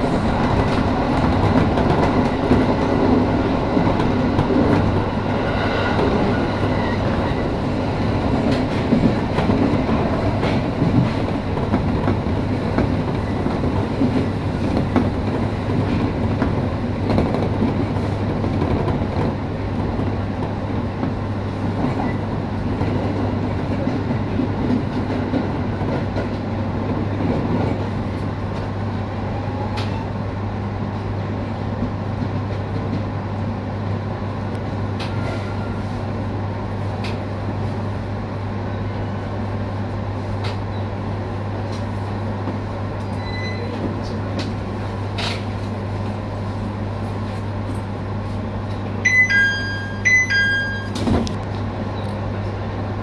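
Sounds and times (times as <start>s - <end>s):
wheels rumbling on rails: 0.0s - 52.6s
electric train low hum: 0.0s - 53.0s.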